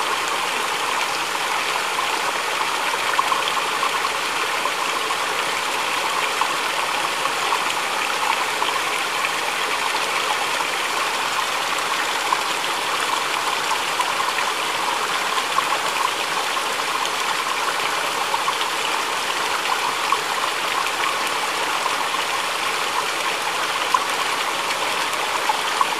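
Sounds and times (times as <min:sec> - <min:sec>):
stream trickling and splashing: 0:00.0 - 0:25.9.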